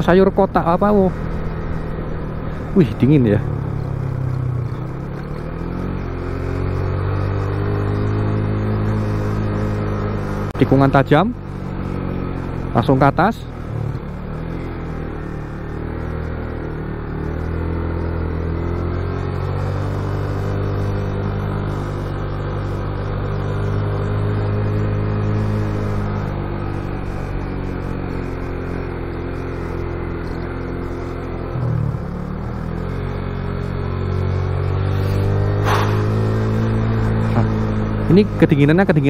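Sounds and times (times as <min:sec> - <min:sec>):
motorcycle engine climbing: 0:00.0 - 0:39.0.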